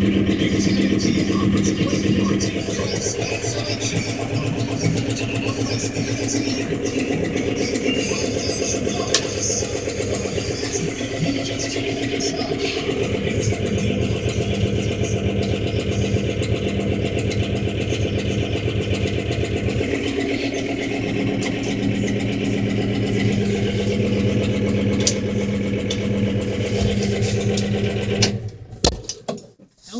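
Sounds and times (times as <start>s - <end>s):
tractor diesel engine running: 0.0s - 29.6s.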